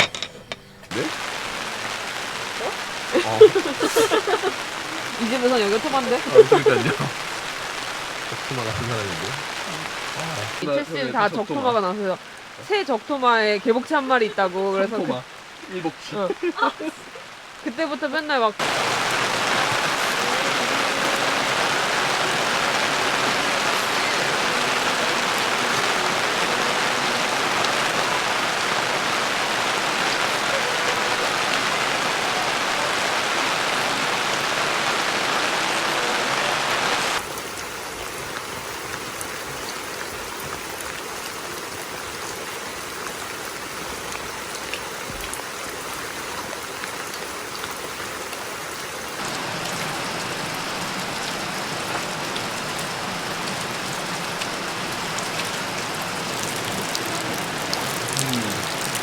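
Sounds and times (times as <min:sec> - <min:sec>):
rain falling: 0:00.9 - 0:59.0.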